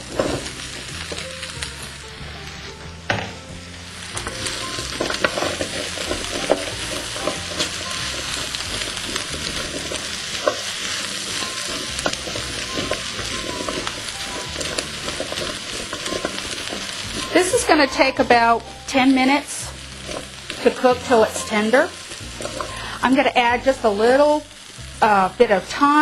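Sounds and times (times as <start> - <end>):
utensil scraping a pan: 0.0 - 1.3, 4.1 - 24.2
squash sizzling in fat: 0.0 - 26.0.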